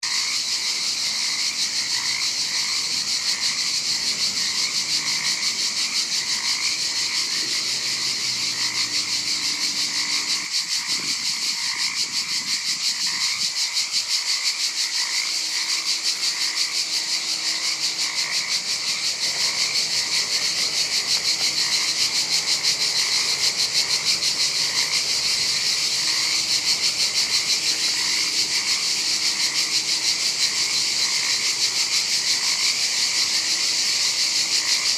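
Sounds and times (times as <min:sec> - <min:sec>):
frogs croaking: 0:00.0 - 0:34.9
insect trill: 0:00.0 - 0:34.9.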